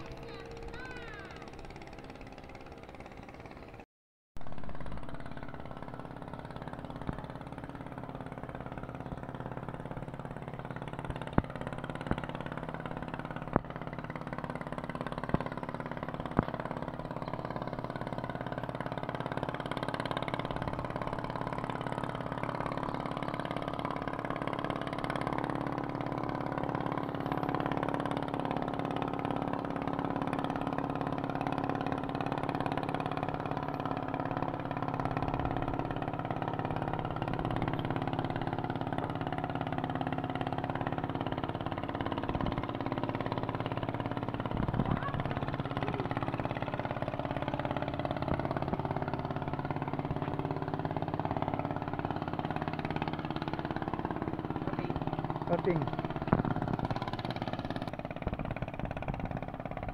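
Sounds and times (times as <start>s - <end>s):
boat engine running: 0.0s - 3.8s, 4.4s - 59.9s.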